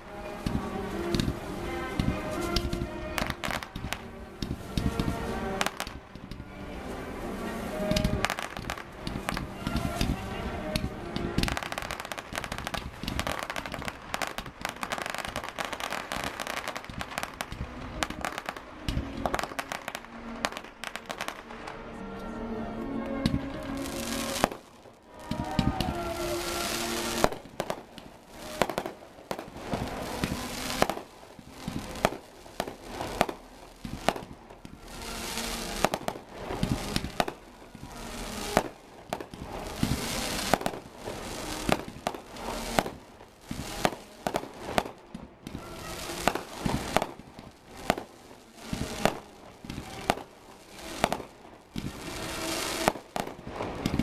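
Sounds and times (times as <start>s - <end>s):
fireworks bangs: 0.0s - 21.8s, 23.0s - 54.0s
fireworks crackling: 0.0s - 54.0s.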